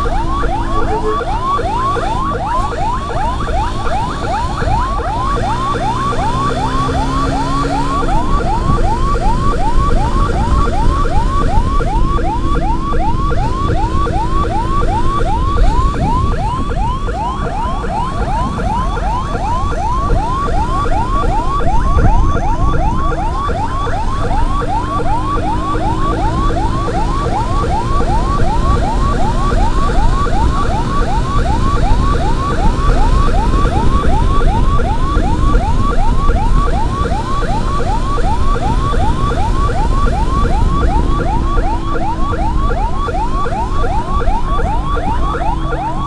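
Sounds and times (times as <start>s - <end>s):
road and engine noise: 0.0s - 46.0s
siren on fast yelp: 0.0s - 46.0s.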